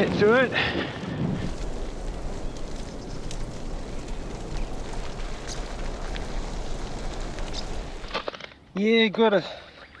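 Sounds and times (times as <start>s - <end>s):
bicycle tyres rolling through mud: 0.0s - 8.6s.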